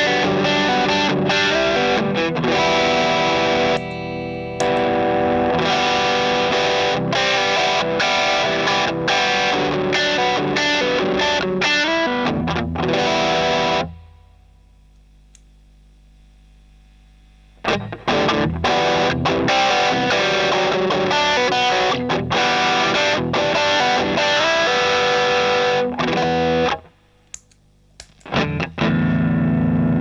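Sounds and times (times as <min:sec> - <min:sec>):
distorted electric guitar: 0:00.0 - 0:14.6, 0:17.6 - 0:27.1, 0:28.2 - 0:30.0
low amp hum: 0:00.0 - 0:20.5, 0:24.9 - 0:30.0.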